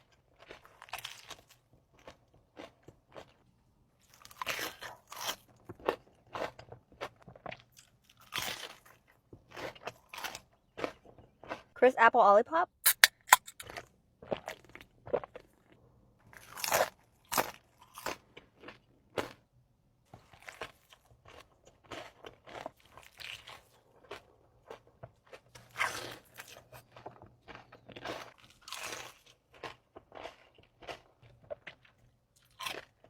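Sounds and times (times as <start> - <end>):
crunchy food chewing: 0.0 - 11.8, 12.8 - 33.0.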